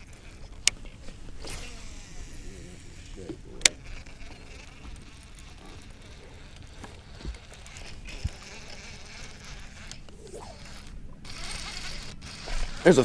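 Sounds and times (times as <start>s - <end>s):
fishing reel whirring: 0.0s - 13.0s
low hum: 0.0s - 13.0s.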